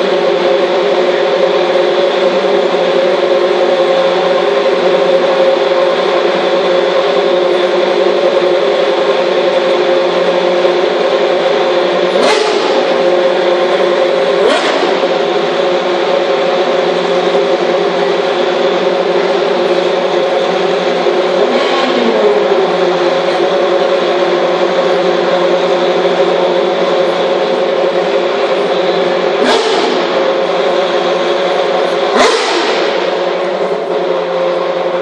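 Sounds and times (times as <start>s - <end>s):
engine revving whine: 0.0s - 35.0s
race car engines idling: 0.0s - 35.0s.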